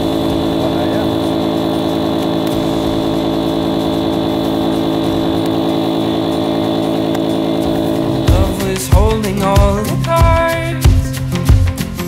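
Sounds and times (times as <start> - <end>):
small air pump motor running: 0.0 - 12.0.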